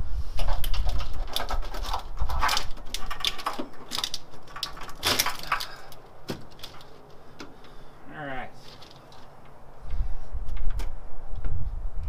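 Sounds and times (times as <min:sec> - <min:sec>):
engine parts clicking and scraping: 0:00.2 - 0:11.4.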